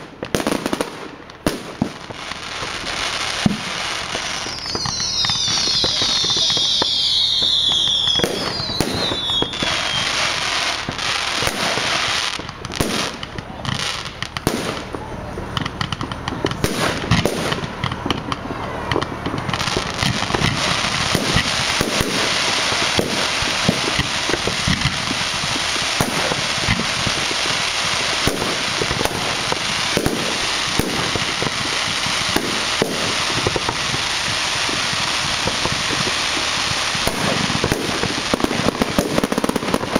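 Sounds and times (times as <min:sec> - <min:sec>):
fireworks bangs and crackling: 0:00.0 - 0:39.9
whistling fireworks: 0:00.0 - 0:39.9.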